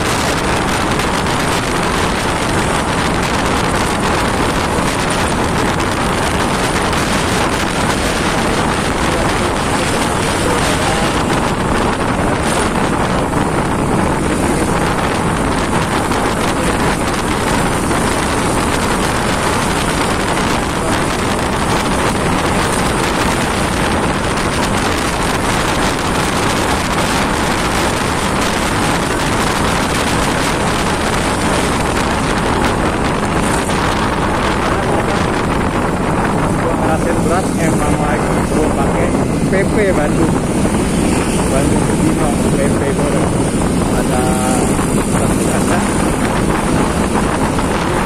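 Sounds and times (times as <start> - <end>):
scooter engine running: 0.0 - 48.0
wind rushing on microphone: 0.0 - 48.0.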